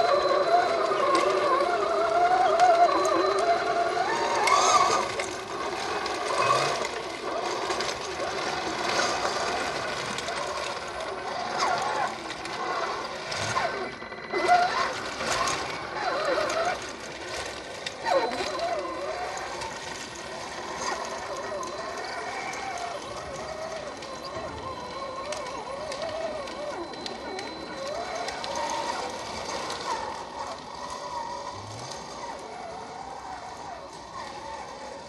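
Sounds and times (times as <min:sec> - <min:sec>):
rc truck motor whining: 0:00.0 - 0:35.0.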